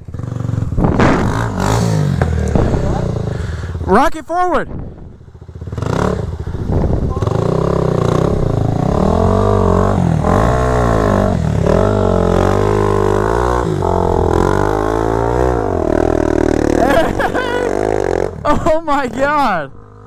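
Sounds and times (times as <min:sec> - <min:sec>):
motorcycle engine revving: 0:00.0 - 0:04.0, 0:04.8 - 0:20.0.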